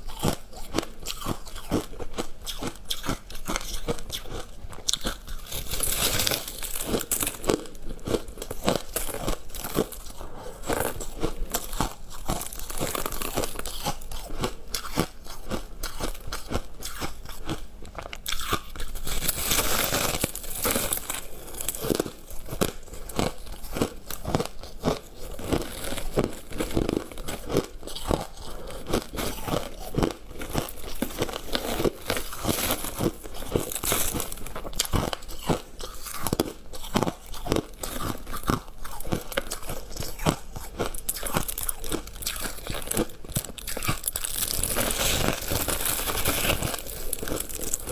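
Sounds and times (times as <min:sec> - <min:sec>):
crunching and chewing ice: 0:00.0 - 0:47.9.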